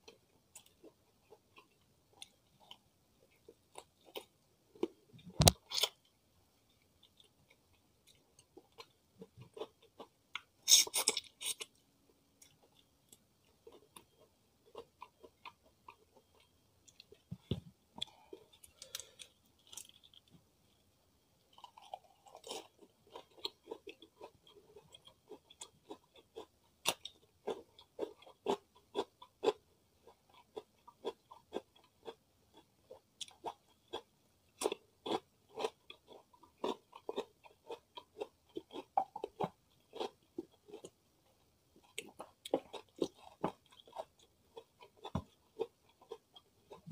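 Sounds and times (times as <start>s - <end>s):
close chewing and crunching: 0.0s - 6.1s, 6.7s - 11.8s, 12.4s - 20.8s, 21.4s - 46.9s.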